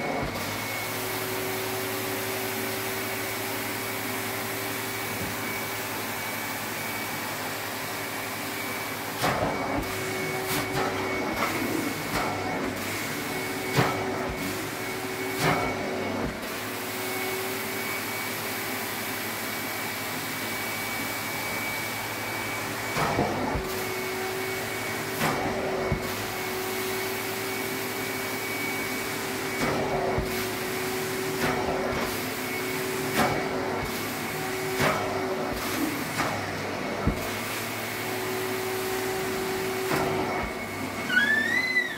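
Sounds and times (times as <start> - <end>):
carpet extraction machine suction: 0.0 - 41.9.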